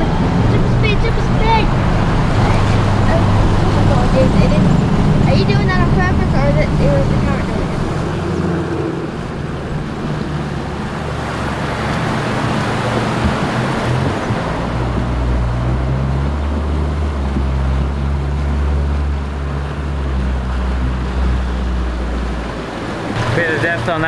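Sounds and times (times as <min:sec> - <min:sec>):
river water rushing: 0:00.0 - 0:24.0
vehicle engine running: 0:00.0 - 0:24.0.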